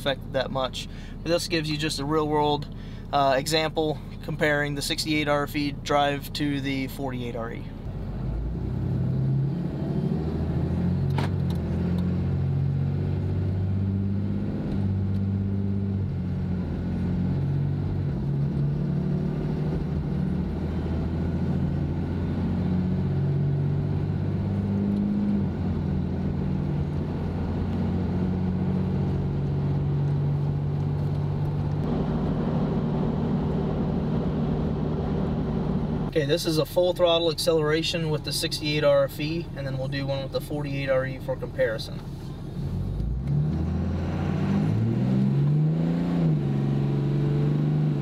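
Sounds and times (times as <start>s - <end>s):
road noise: 0.0s - 48.0s
diesel engine accelerating through gears: 7.6s - 48.0s.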